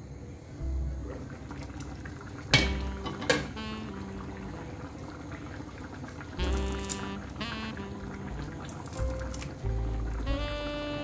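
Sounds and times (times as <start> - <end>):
curry bubbling in a pot: 1.0 - 10.6.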